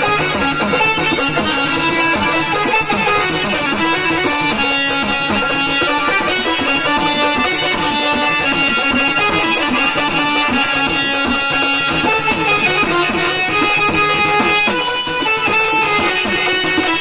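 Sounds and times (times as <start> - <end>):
instrumental folk music: 0.0 - 17.0.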